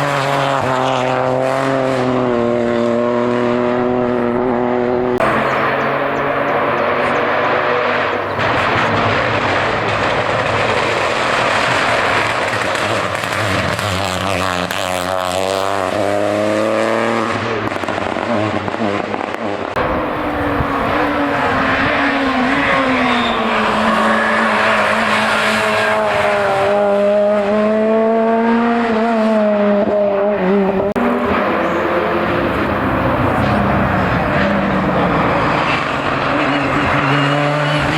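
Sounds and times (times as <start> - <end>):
racing car engine revving: 0.0 - 37.9.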